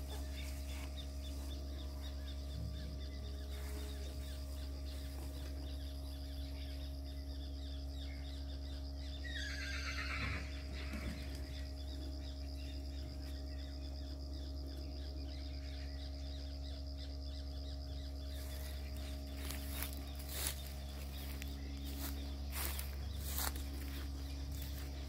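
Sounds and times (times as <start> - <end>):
faint rhythmic chirping: 0.0 - 25.0.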